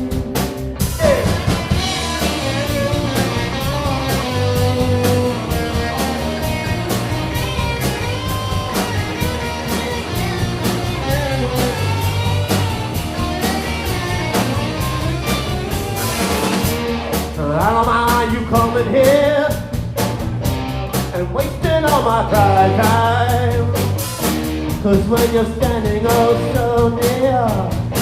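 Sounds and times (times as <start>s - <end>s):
bass guitar: 0.0s - 28.0s
drum beat: 0.0s - 28.0s
lead guitar: 0.0s - 28.0s.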